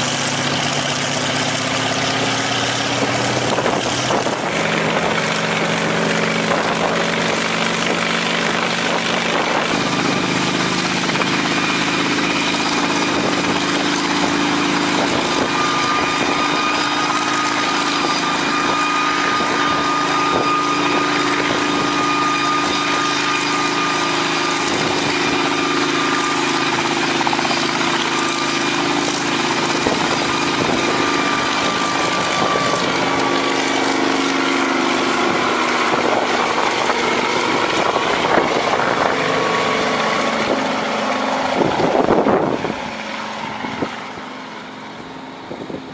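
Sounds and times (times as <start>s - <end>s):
helicopter engines starting up: 0.0s - 45.9s
steady high whine: 0.0s - 45.9s.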